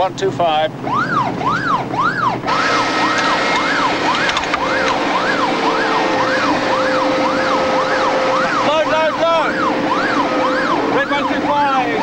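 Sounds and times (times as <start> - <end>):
steady rush of noise: 0.0 - 12.0
electronic siren whooping: 0.8 - 12.0.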